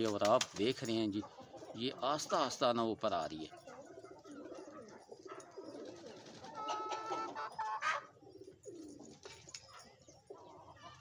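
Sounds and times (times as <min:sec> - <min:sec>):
pigeons cooing: 0:00.8 - 0:11.0.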